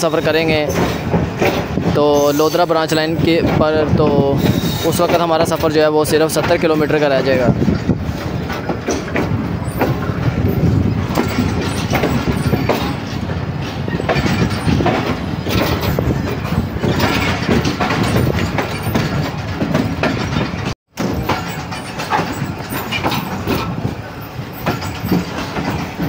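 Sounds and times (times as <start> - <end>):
train coaches rumbling: 0.0 - 26.0
wheels clicking over rail joints: 0.0 - 26.0.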